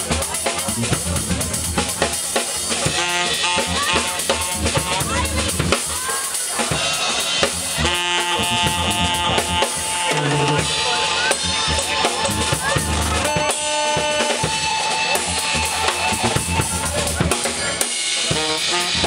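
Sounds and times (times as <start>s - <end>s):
drum kit groove: 0.0s - 19.0s
saxophone playing: 2.8s - 6.0s, 6.7s - 19.0s.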